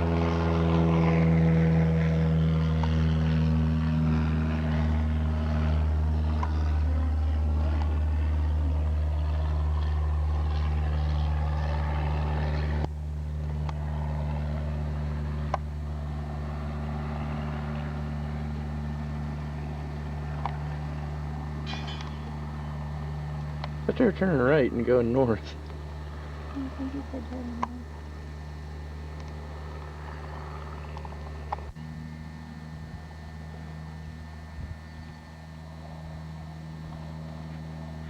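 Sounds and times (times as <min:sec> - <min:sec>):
propeller airplane engine drone: 0:00.0 - 0:38.0.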